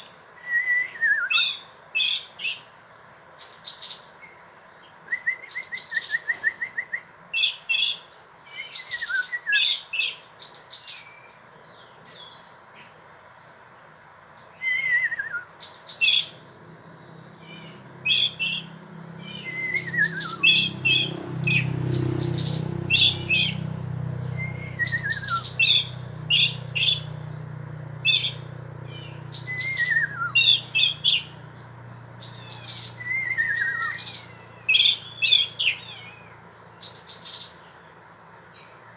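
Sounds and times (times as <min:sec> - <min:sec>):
small birds chirping: 0:07.1 - 0:38.9.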